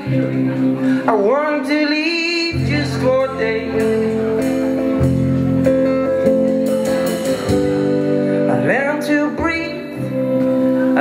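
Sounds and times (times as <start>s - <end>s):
live band playing pop: 0.0s - 11.0s.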